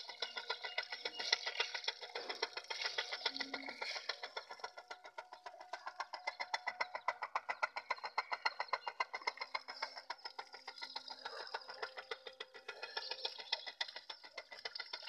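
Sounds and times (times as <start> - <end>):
motor driving pump clattering: 0.0 - 15.0.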